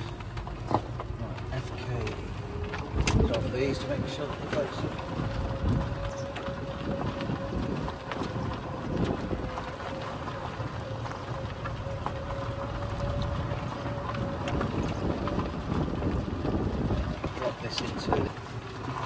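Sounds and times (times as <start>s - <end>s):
motor whine: 0.0s - 19.0s
tyres rumbling on gravel: 0.0s - 19.0s
wind buffeting microphone: 0.0s - 19.0s.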